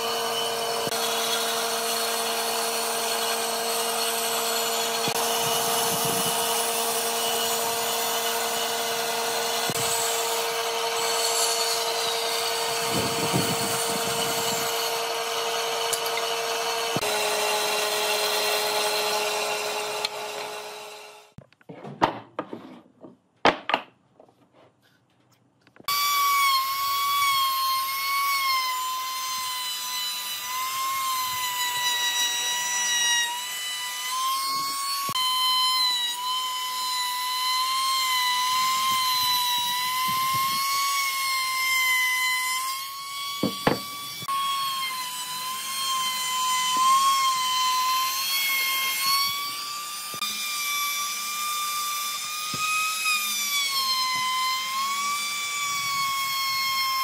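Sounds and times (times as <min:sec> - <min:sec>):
trim router cutting wood: 0:00.0 - 0:21.4, 0:25.8 - 0:57.0.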